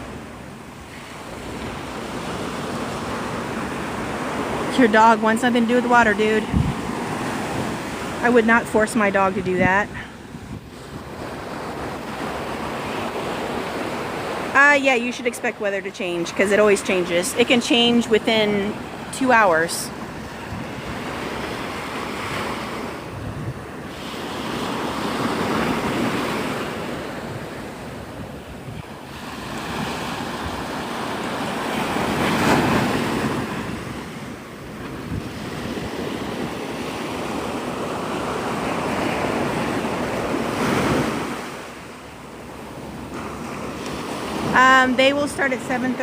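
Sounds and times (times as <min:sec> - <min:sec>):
surf breaking on beach: 0:00.0 - 0:41.9
wind buffeting microphone: 0:01.4 - 0:41.6.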